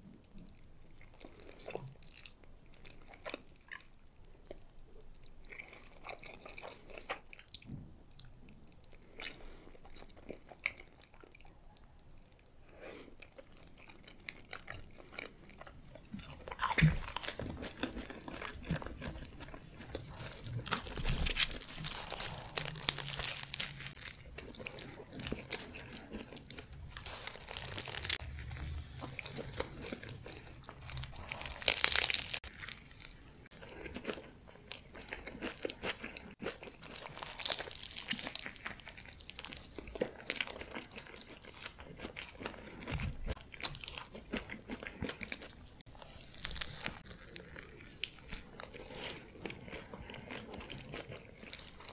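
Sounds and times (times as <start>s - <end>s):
biting and chewing food: 0.0s - 51.9s.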